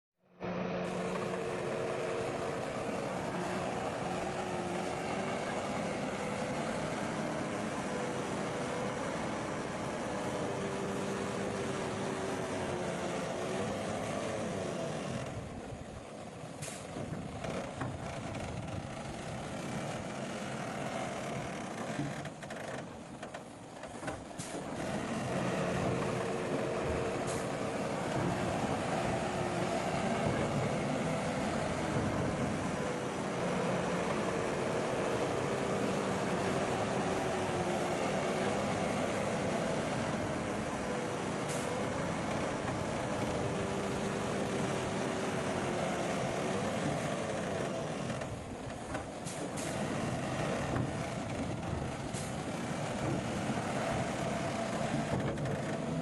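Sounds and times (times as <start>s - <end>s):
heavy engines running: 0.2s - 56.0s.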